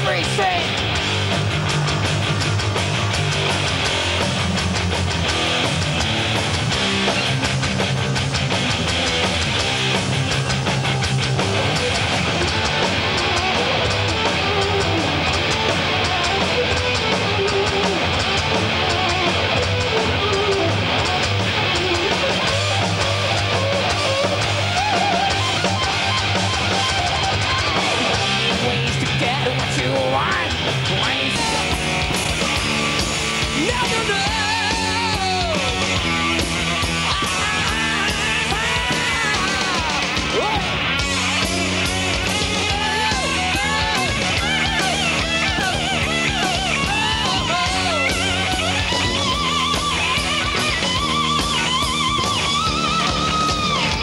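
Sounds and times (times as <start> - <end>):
distorted electric guitar riffing: 0.0 - 54.0
drum kit: 0.0 - 54.0.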